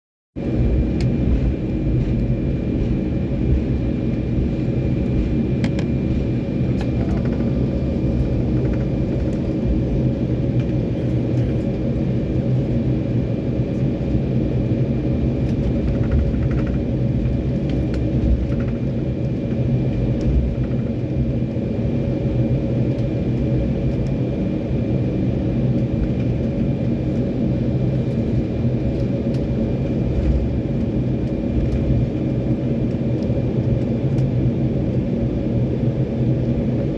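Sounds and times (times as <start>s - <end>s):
airliner cabin engine rumble: 0.4s - 36.9s.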